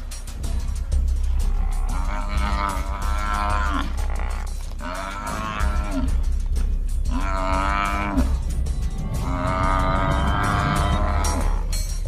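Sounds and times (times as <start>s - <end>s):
buffalo bawling: 1.0s - 12.0s.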